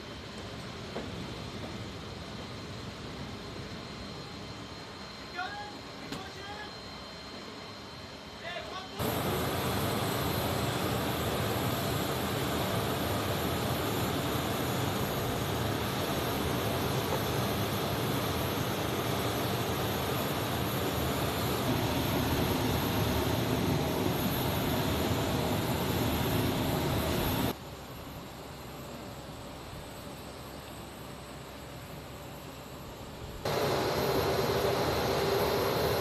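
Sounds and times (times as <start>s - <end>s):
jet turbine with high whine: 0.0s - 36.0s.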